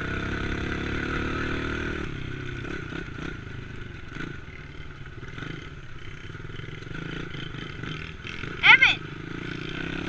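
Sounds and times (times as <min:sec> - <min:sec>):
dirt bike engine at low revs: 0:00.0 - 0:10.0.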